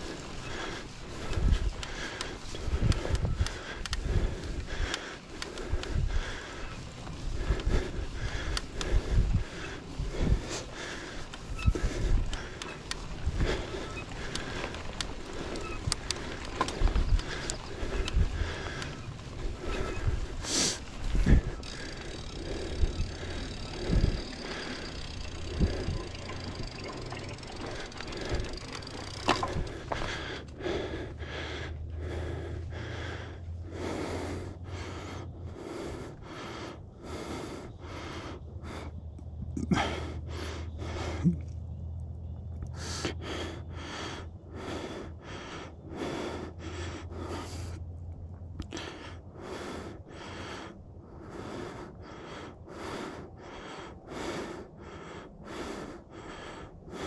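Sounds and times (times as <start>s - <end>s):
person breathing hard: 0.0s - 41.7s, 42.7s - 57.0s.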